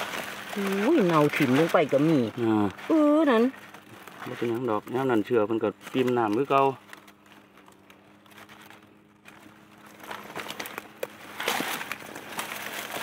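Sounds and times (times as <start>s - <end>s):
dry leaves rustling and crackling: 0.0s - 13.0s
faint steady hum: 0.0s - 13.0s.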